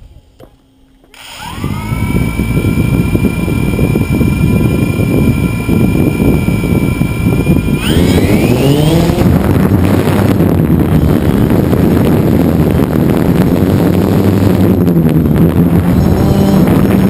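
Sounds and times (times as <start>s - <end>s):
drone motors whining: 0.0s - 17.0s
propeller downwash rushing: 1.2s - 17.0s.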